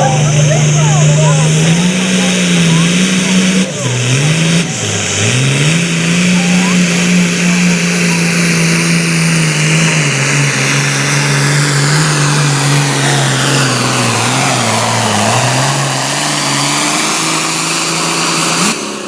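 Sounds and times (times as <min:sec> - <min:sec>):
diesel tractor engine revving hard: 0:00.0 - 0:19.0.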